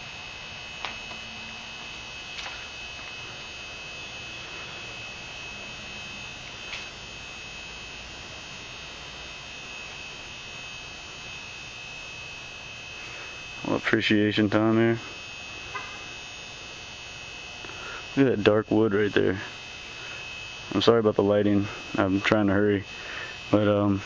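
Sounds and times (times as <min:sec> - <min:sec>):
high-pitched whine: 0:00.0 - 0:24.0
steady electrical hum: 0:00.0 - 0:24.0.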